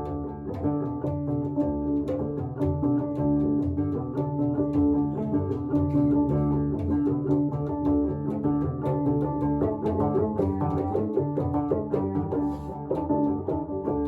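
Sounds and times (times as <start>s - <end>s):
deep bass part: 0.0s - 14.0s
plucked string music: 0.0s - 14.0s.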